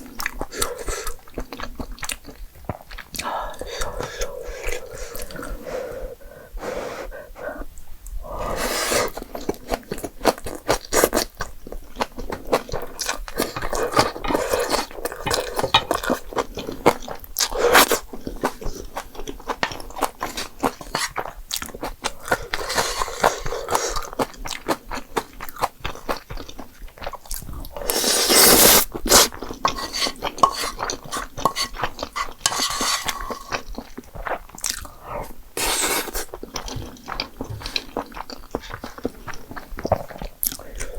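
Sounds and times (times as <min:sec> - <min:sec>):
person chewing and crunching: 0:00.0 - 0:05.7, 0:08.0 - 0:40.9.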